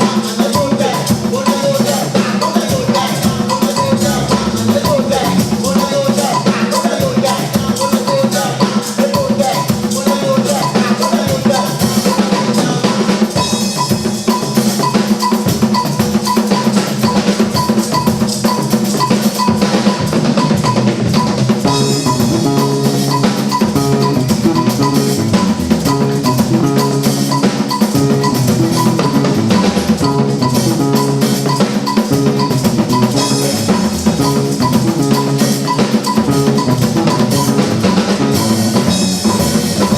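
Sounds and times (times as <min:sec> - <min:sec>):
drum kit with rimshots: 0:00.0 - 0:39.9
stepping bass line: 0:00.0 - 0:39.9.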